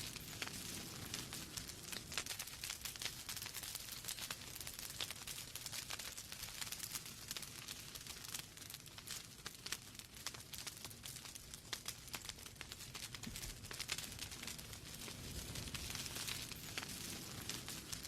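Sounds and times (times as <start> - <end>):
logs crackling and popping: 0.0 - 18.0
soft steady fire hiss: 0.0 - 18.0.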